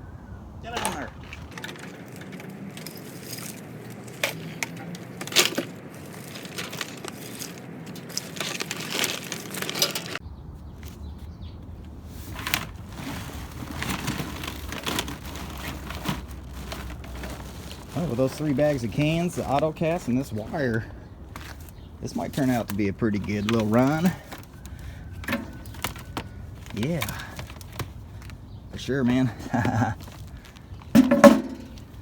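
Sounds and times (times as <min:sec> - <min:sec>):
scrap wire rustling and crackling: 0:01.4 - 0:10.2, 0:12.1 - 0:32.0.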